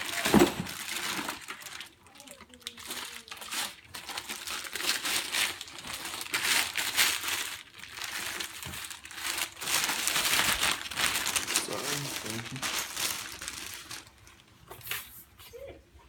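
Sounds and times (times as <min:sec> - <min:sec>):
packaging crinkling: 0:00.0 - 0:14.6.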